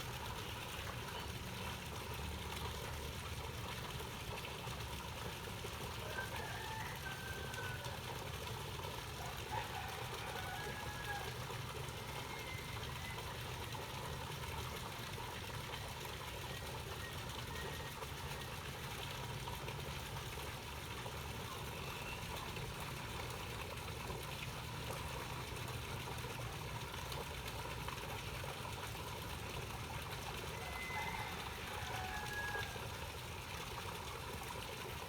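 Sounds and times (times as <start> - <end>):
fountain water splashing into pond: 0.0 - 35.0.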